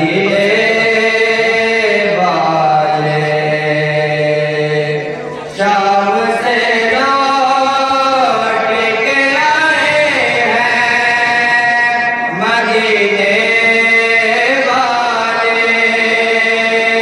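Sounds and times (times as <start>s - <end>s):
person chanting a mourning lament: 0.0s - 17.0s.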